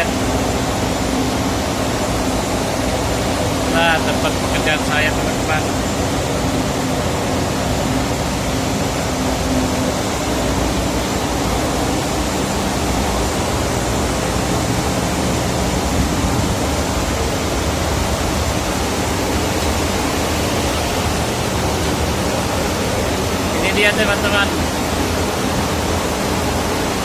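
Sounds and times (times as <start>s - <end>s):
engine room machinery noise: 0.0s - 27.0s.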